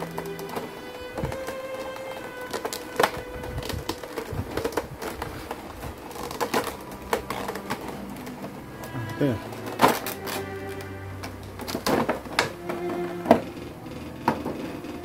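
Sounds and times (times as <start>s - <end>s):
background music with held notes: 0.0s - 15.0s
packaging clicks and taps: 0.0s - 15.0s.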